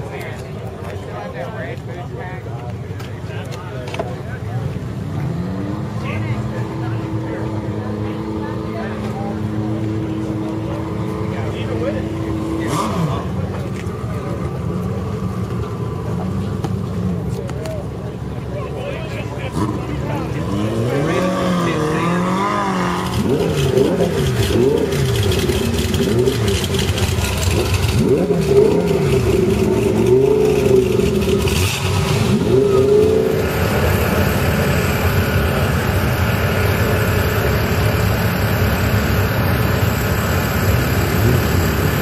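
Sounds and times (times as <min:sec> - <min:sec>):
sports car engine revving: 0:04.7 - 0:17.6, 0:19.1 - 0:42.0.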